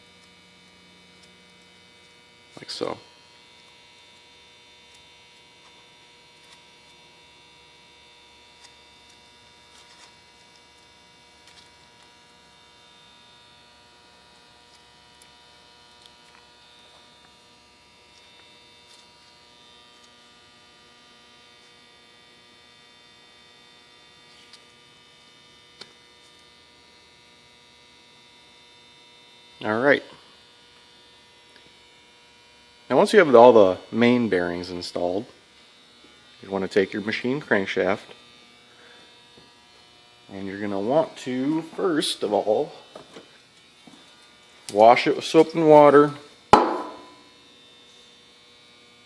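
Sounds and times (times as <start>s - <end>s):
electrical hum: 0.0s - 49.0s.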